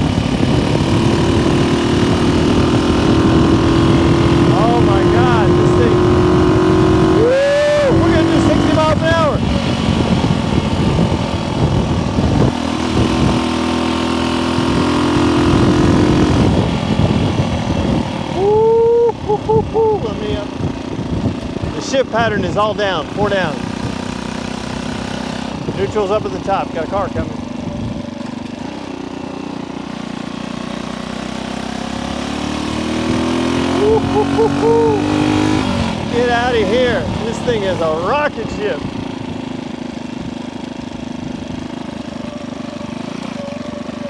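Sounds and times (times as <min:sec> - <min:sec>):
wind rush over microphone: 0:00.0 - 0:28.2, 0:32.9 - 0:42.2
motorcycle engine at high revs: 0:00.0 - 0:44.0.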